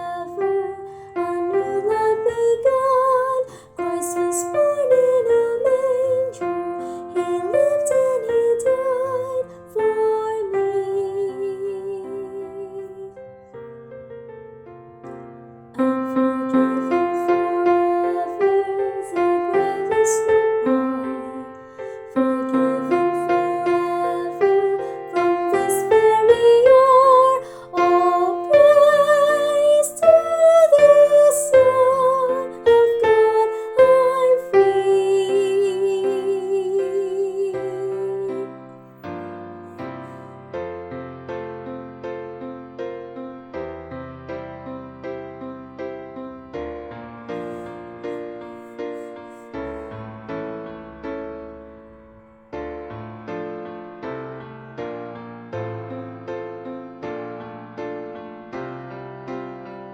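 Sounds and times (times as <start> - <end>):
piano chords and melody: 0.0 - 59.9.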